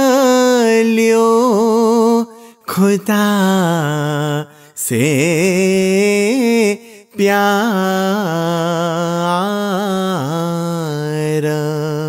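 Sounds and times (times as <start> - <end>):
man singing a hymn: 0.0 - 12.0.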